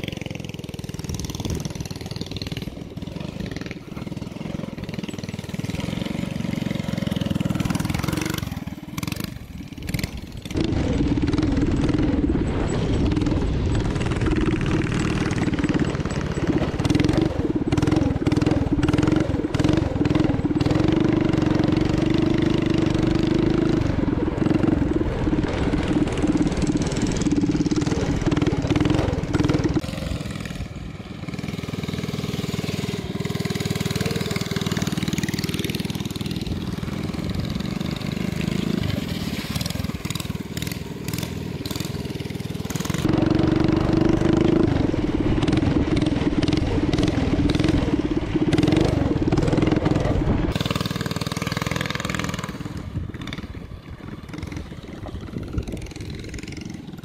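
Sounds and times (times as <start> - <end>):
small engine revving: 0.0 - 57.0.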